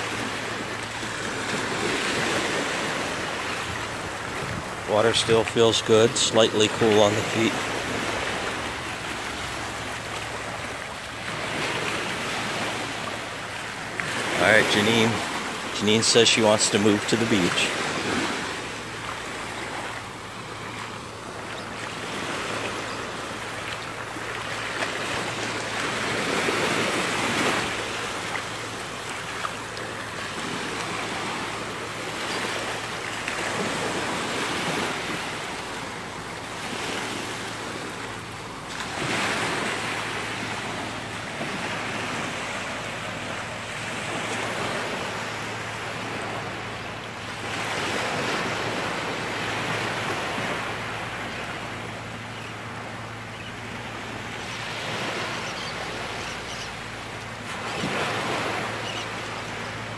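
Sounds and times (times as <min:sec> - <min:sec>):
small waves washing on sand: 0:00.0 - 0:59.9.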